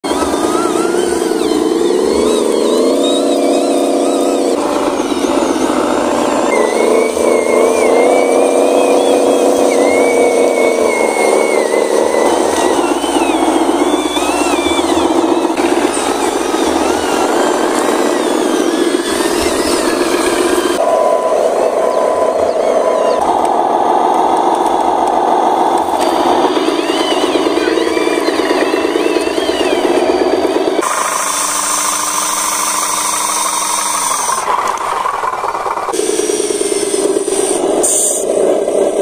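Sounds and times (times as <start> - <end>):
model truck motors whining: 0.0 - 39.0.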